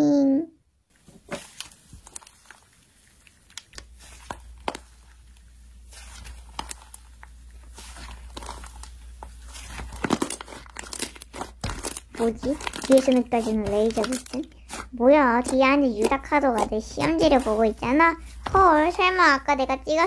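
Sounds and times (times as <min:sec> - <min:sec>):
slime crackling and popping: 0:01.0 - 0:20.0.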